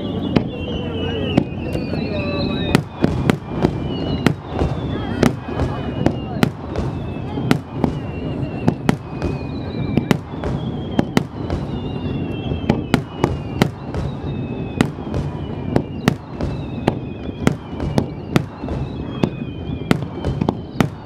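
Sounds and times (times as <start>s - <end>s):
firework whistles falling in pitch: 0.0s - 21.0s
fireworks bursting with bangs: 0.0s - 21.0s.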